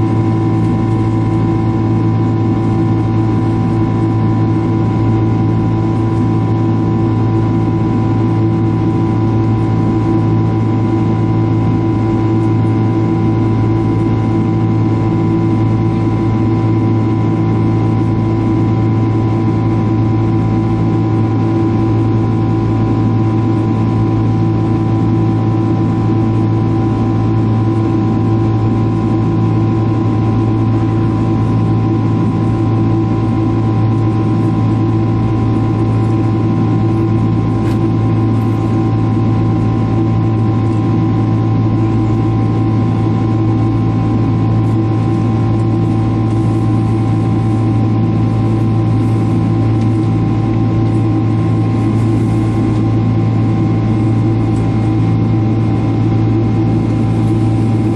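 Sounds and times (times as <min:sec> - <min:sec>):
jet engines droning: 0:00.0 - 0:57.9.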